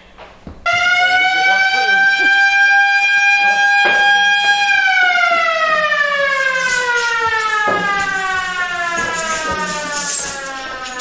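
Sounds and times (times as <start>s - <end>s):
emergency alarm siren: 0.6s - 11.0s.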